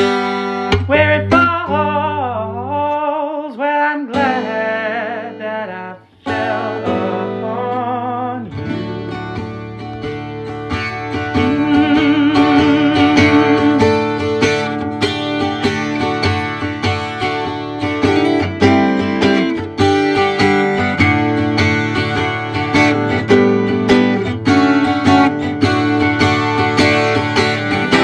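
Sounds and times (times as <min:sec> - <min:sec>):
person singing: 0:00.0 - 0:10.1, 0:11.0 - 0:16.2, 0:18.0 - 0:28.0
acoustic guitar strumming: 0:00.0 - 0:28.0.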